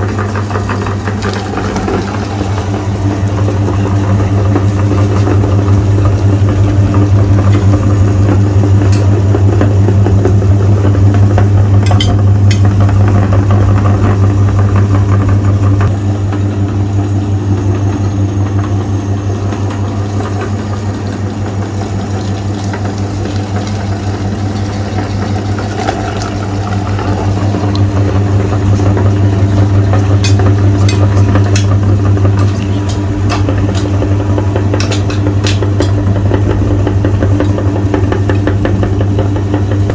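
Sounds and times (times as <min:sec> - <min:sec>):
meat grinder motor humming: 0:00.0 - 0:39.9.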